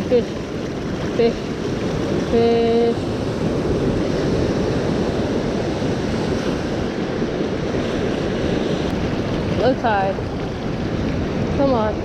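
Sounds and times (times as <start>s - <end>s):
ocean surf washing: 0.0s - 12.0s
wind buffeting microphone: 0.0s - 12.0s.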